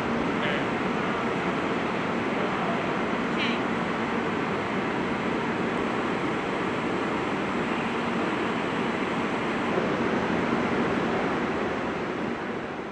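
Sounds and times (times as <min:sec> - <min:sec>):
high-speed train rushing: 0:00.0 - 0:12.9.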